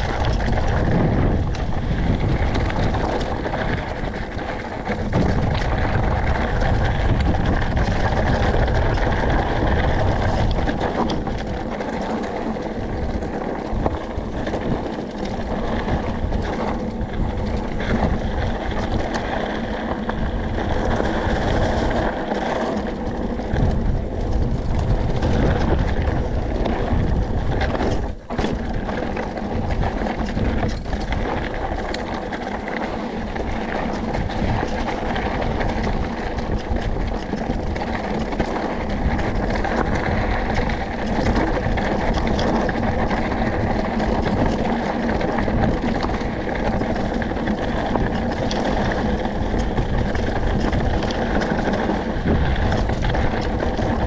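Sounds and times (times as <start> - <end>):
bike rattling over rocks: 0.0 - 54.0
tyres crunching on gravel: 0.0 - 54.0
wind rushing over microphone: 0.0 - 54.0.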